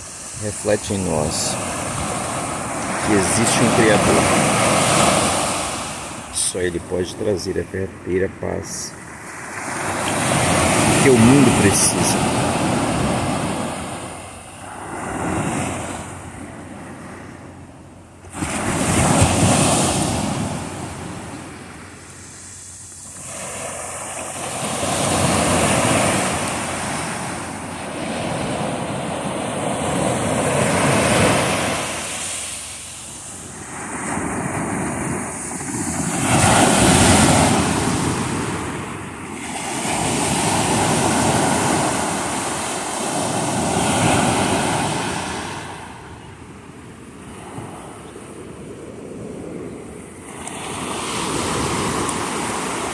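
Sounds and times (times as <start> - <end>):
sea waves breaking: 0.0 - 52.9.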